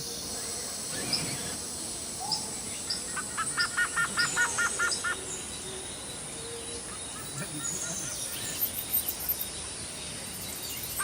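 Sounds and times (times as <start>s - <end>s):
insect hiss: 0.0s - 11.0s.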